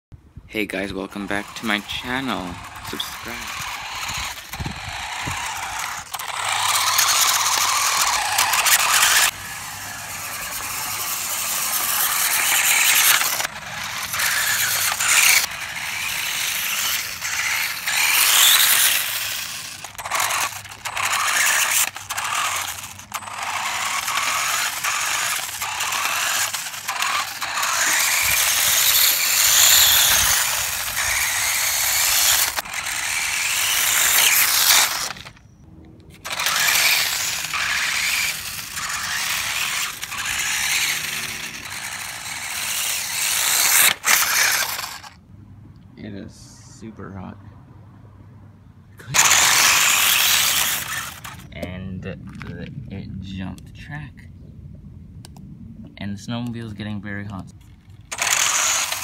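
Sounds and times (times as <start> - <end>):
toy snowmobile track whirring: 0.7 - 35.5, 36.1 - 45.2, 49.0 - 52.7, 57.3 - 59.0.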